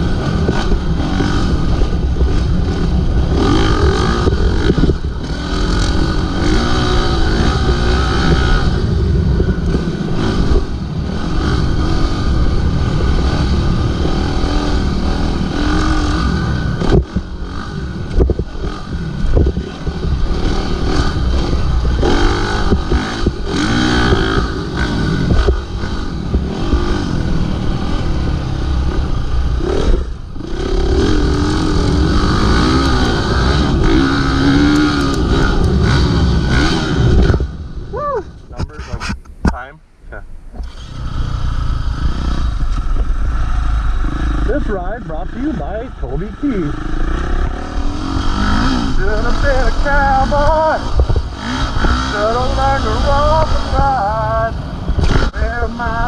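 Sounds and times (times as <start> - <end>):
dirt bike engine revving: 0.0 - 39.6, 40.5 - 56.0.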